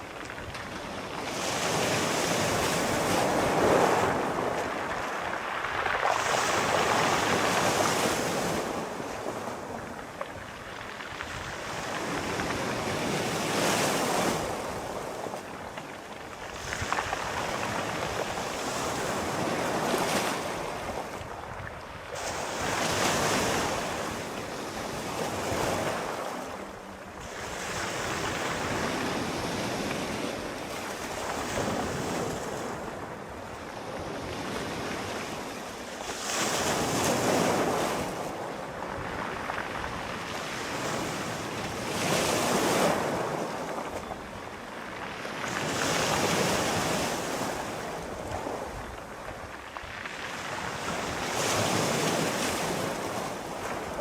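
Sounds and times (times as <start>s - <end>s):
sea waves breaking on shore: 0.0s - 54.0s
wind noise: 0.0s - 54.0s.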